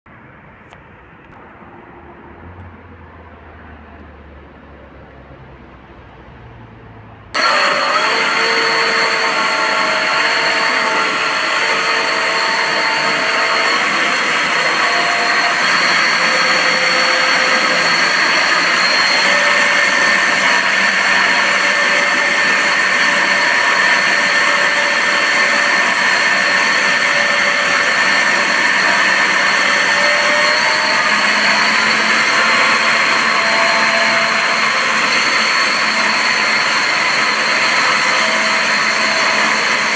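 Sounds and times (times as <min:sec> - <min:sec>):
thruster motor whine: 0:07.4 - 0:39.9
water jet rushing and splashing: 0:07.4 - 0:39.9.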